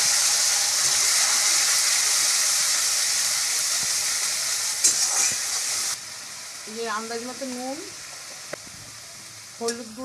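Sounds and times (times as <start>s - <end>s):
paste sizzling in hot oil: 0.0s - 10.0s.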